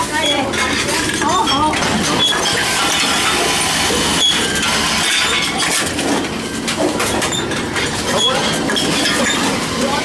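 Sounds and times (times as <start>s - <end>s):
vending machines crushing containers: 0.0s - 10.0s.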